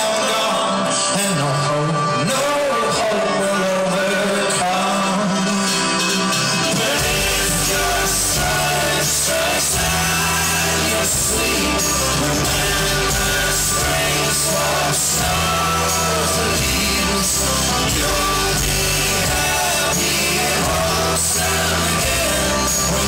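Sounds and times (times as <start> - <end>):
folk-rock band with horns and strings: 0.0 - 23.0
singing: 0.0 - 23.0.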